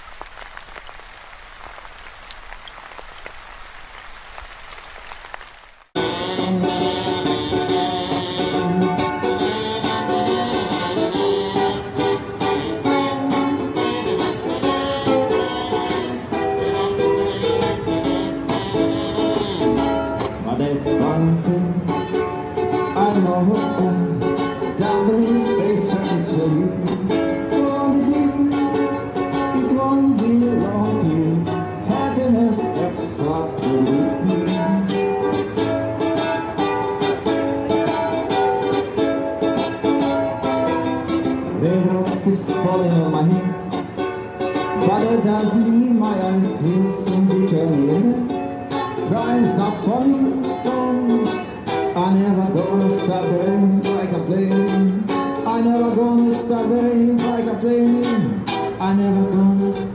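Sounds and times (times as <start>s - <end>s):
strummed string instrument music: 6.0s - 59.9s.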